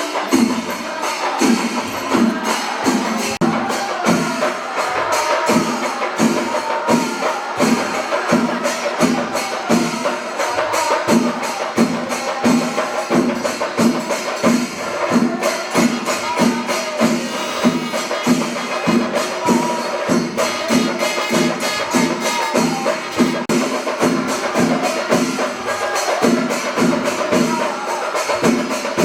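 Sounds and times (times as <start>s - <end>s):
drums playing steady beat: 0.0s - 29.0s
hand cymbals: 0.0s - 29.0s.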